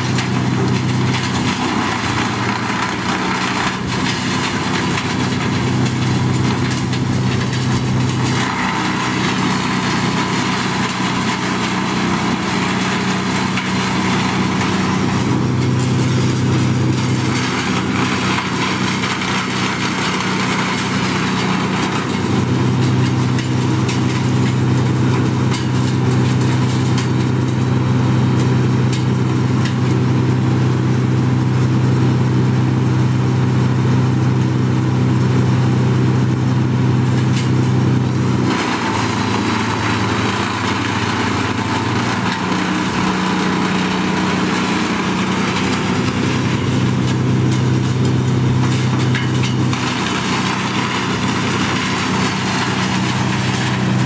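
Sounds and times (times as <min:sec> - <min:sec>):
harsh chipping noise: 0:00.0 - 0:27.5, 0:37.2 - 0:54.0
wood chipper engine running: 0:00.0 - 0:54.0.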